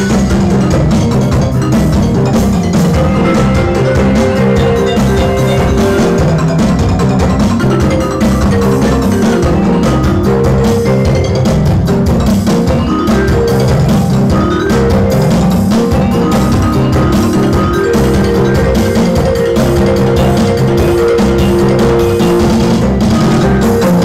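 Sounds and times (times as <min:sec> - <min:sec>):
loud music with heavy bass: 0:00.0 - 0:24.0.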